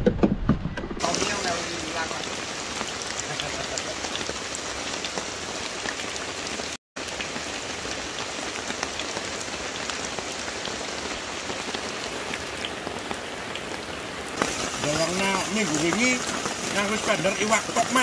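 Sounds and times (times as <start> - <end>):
heavy rain falling: 1.0 - 18.0.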